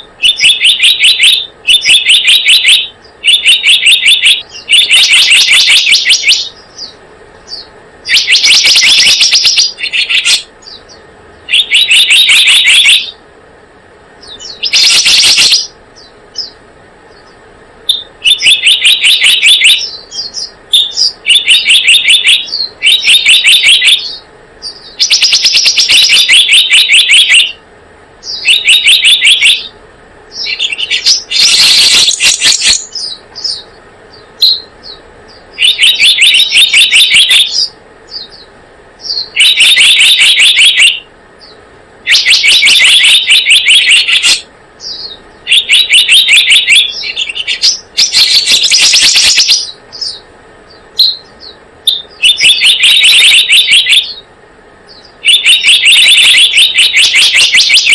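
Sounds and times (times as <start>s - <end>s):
bird call trills: 0.0s - 13.2s, 14.2s - 27.6s, 28.2s - 54.3s, 54.9s - 57.9s.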